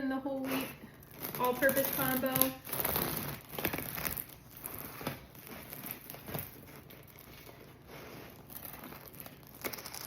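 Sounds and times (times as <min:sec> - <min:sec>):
bread crust crackling: 0:00.6 - 0:10.0.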